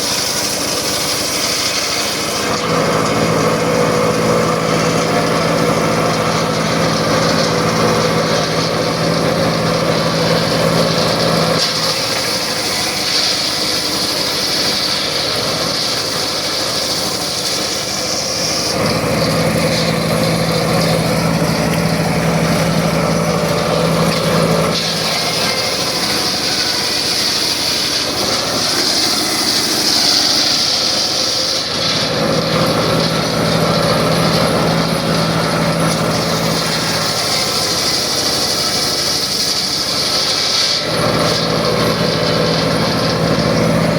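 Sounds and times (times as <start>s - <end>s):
circular saw cutting wood: 0.0s - 43.9s
circular saw humming: 0.0s - 43.9s.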